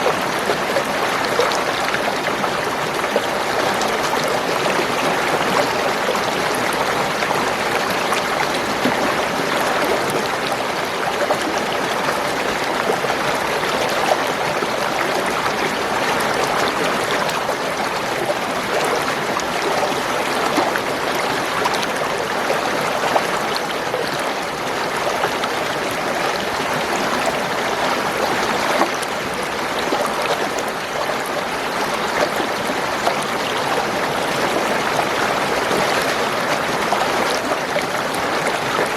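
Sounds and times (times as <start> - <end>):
small water splashes: 0.0 - 38.9
spring water gurgling: 0.0 - 38.9.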